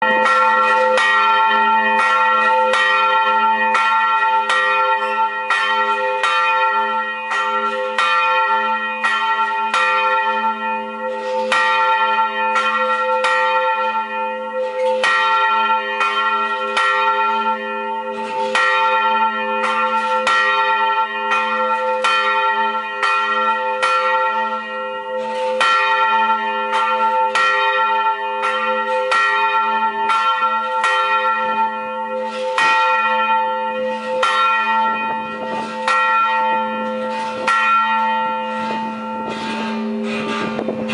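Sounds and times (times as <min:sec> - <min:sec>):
church bell ringing rapidly: 0:00.0 - 0:40.9.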